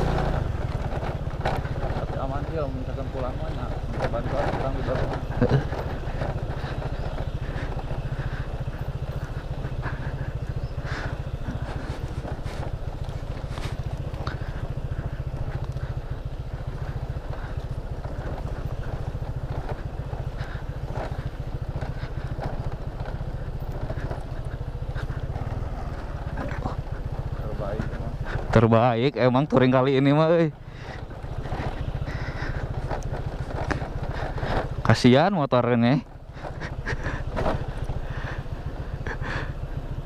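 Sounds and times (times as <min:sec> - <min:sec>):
knocks and rattles from bumps: 0:00.0 - 0:39.5
motor scooter engine running: 0:00.0 - 0:40.0.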